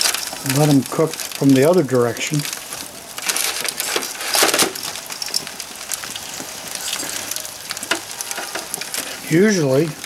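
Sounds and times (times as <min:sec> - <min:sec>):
squash sizzling on a grill: 0:00.0 - 0:10.0.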